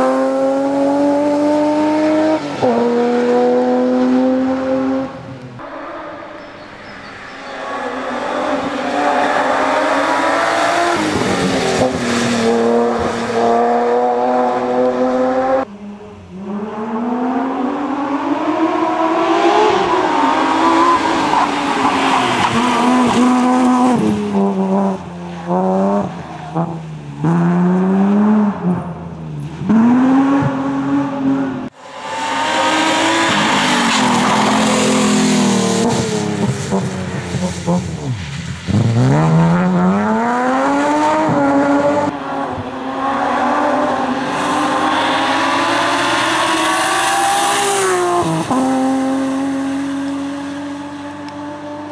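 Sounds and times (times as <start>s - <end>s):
rally car engine revving hard: 0.0s - 5.2s, 7.4s - 15.7s, 16.4s - 28.9s, 29.5s - 51.9s.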